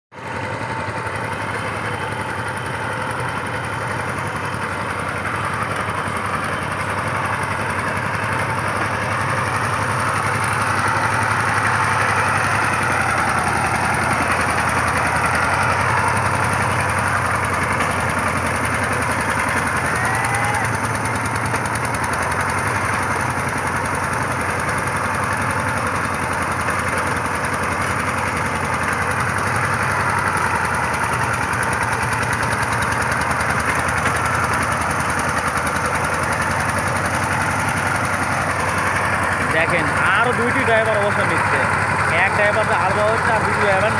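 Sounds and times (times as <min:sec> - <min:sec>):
diesel tiller engine running: 0:00.1 - 0:43.9.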